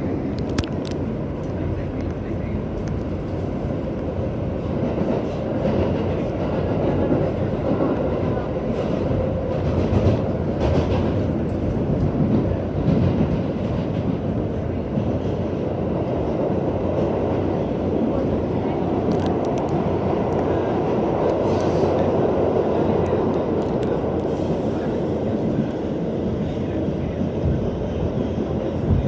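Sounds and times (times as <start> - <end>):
subway train rumbling: 0.0 - 29.0.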